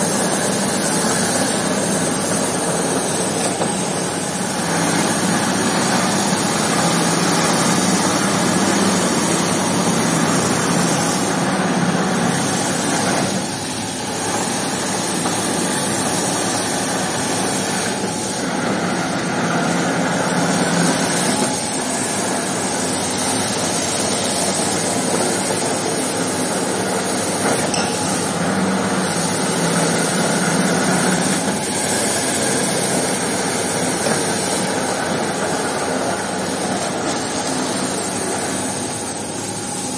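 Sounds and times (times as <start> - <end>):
carpet scrubbing machine running: 0.0 - 39.9.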